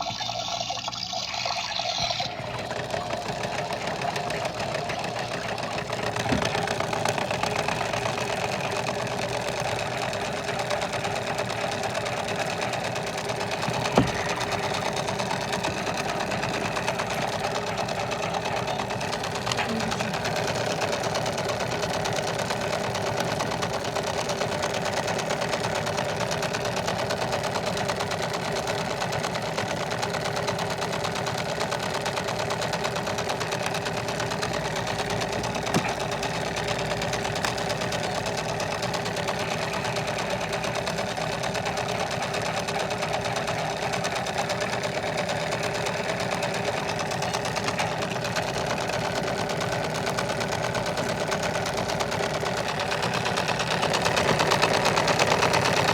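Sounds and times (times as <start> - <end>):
washing machine running: 0.0 - 55.9.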